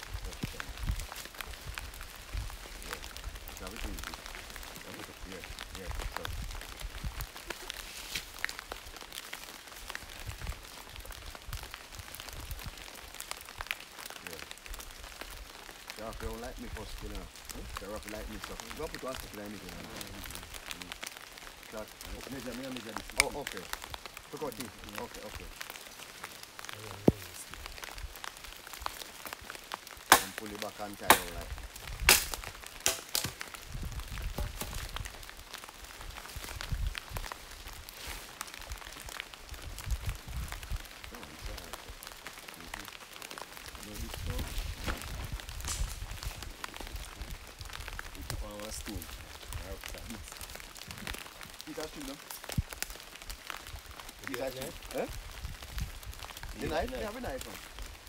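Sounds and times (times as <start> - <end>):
rain on foliage and tarp: 0.0 - 58.0.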